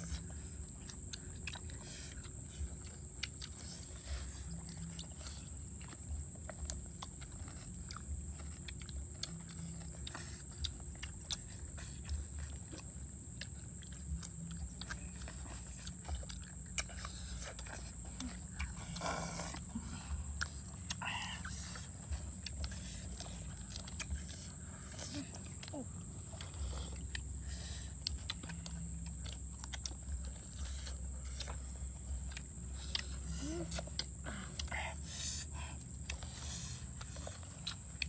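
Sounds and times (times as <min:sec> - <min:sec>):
people chewing and lip-smacking: 0:00.0 - 0:38.0.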